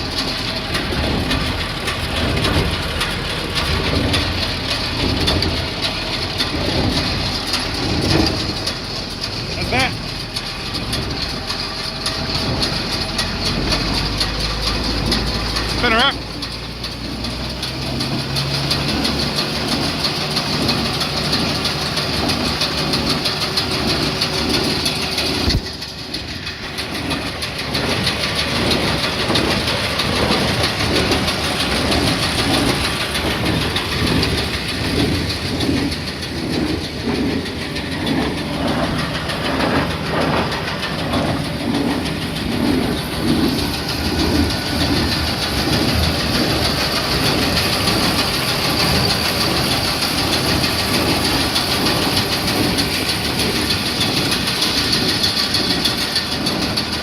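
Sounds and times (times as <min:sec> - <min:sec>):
baler clacking rhythm: 0:00.0 - 0:57.0
tractor engine drone: 0:00.0 - 0:57.0.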